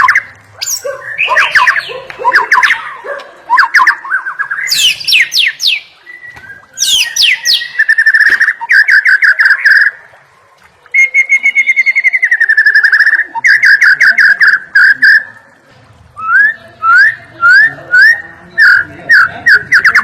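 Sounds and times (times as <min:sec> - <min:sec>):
songbird whistling and trilling: 0:00.0 - 0:10.0, 0:10.9 - 0:15.3, 0:16.2 - 0:20.0.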